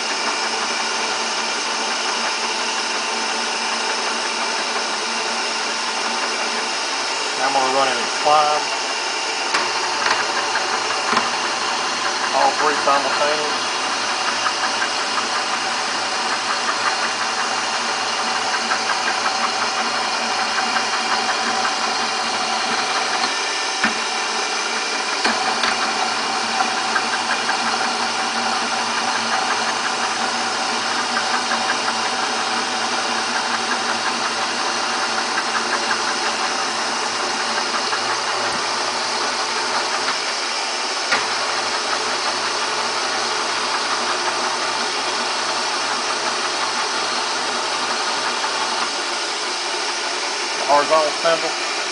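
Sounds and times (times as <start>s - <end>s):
milling machine gearbox whining: 0.0s - 51.9s.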